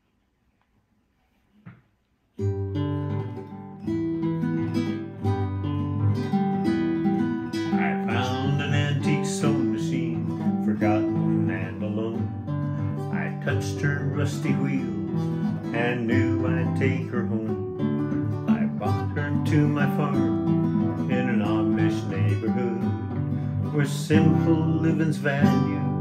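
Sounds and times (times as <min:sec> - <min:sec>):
strummed acoustic guitar: 0:02.4 - 0:26.0.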